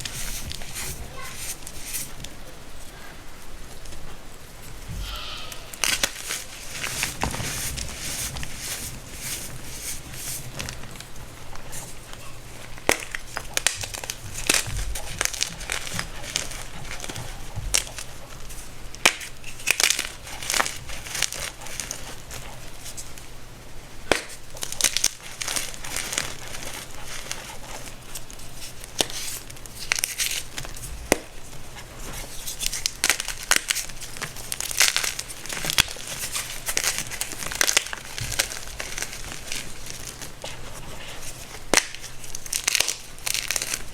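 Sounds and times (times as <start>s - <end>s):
baking soda chunks crunching: 5.8s - 23.2s, 24.0s - 43.9s.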